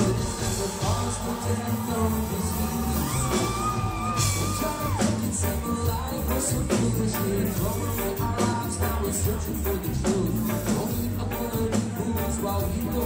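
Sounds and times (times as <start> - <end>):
lead vocals: 0.0 - 13.0
reggae rock band playing: 0.0 - 13.0.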